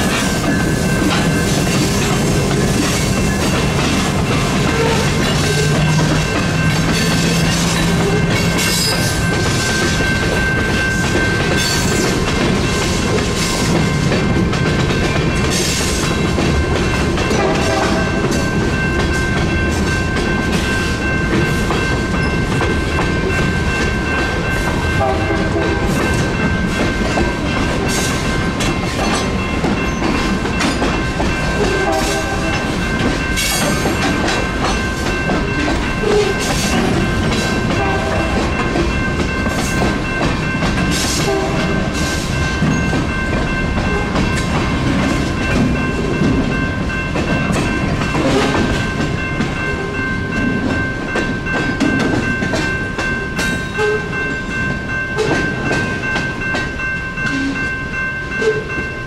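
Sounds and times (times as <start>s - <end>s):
train wheels clacking over rail joints: 0.0s - 54.0s
crossing bell ringing: 0.0s - 59.0s.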